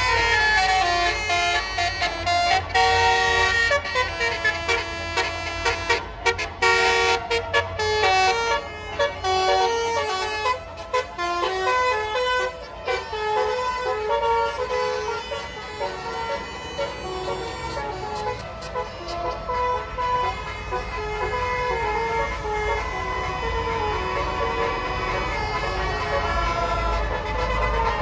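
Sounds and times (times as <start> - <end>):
musical air horns playing melody: 0.0 - 28.0.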